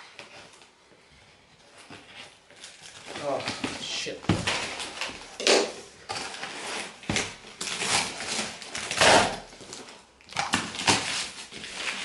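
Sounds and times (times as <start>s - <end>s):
packaging crinkling and rustling: 1.6s - 12.0s.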